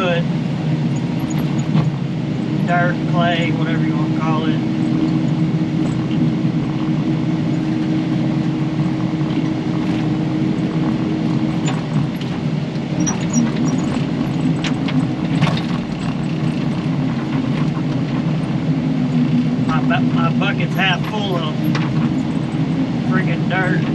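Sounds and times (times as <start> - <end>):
excavator diesel engine: 0.0 - 23.9.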